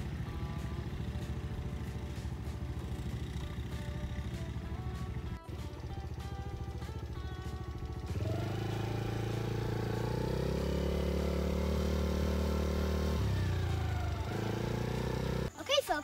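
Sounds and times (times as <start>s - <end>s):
off-road vehicle engine running: 0.0s - 15.8s.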